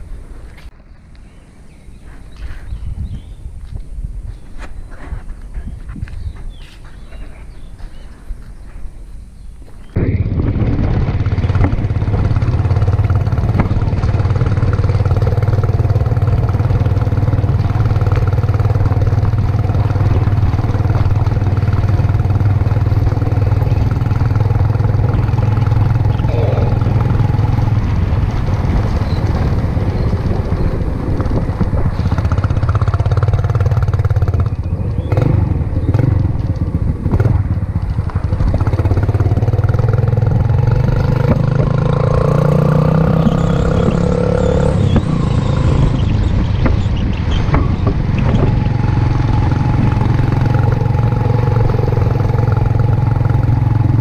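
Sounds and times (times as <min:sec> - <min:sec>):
motorcycle engine running: 0:09.8 - 0:54.0
engine knocks: 0:09.9 - 0:54.0.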